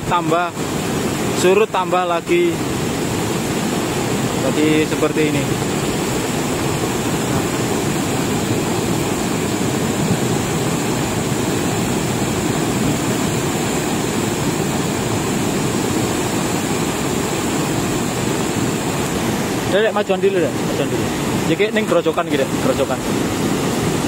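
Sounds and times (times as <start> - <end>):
muddy water rushing: 0.0 - 24.0.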